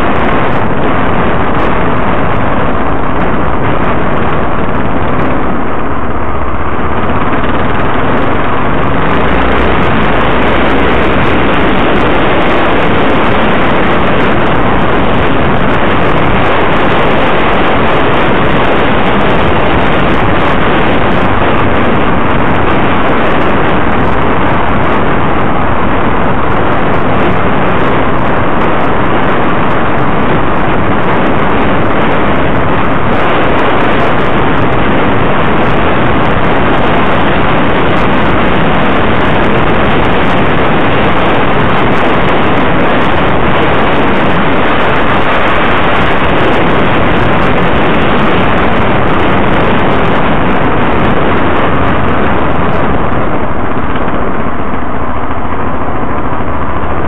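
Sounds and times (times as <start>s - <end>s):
road noise: 0.0s - 57.0s
wind rushing on microphone: 0.0s - 57.0s.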